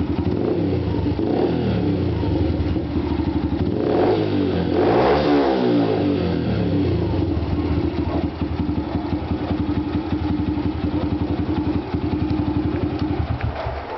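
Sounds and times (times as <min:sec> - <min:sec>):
motorcycle engine idling: 0:00.0 - 0:04.8, 0:06.0 - 0:13.9.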